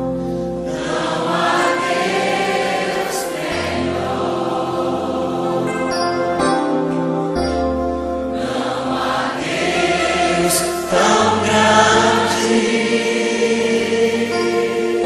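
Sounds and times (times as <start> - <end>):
bass: 0.0 - 1.5, 3.6 - 15.0
keyboard chords: 0.0 - 15.0
choir singing: 0.6 - 7.0, 8.3 - 15.0.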